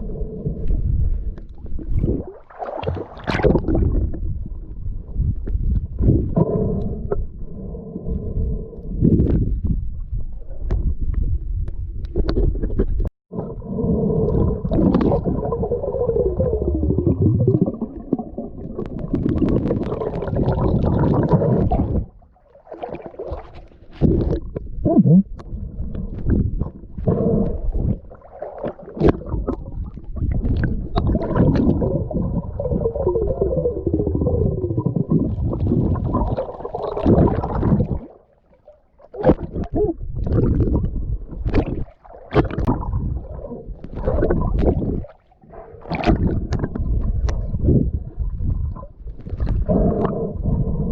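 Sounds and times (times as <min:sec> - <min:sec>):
muffled underwater water sloshing: 0:00.0 - 0:50.9.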